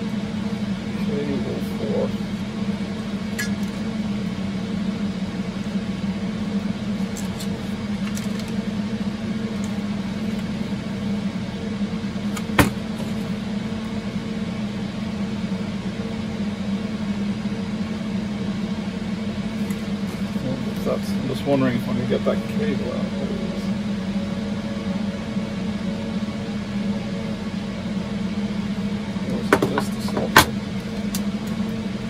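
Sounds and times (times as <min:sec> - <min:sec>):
computer server fans humming: 0:00.0 - 0:32.0.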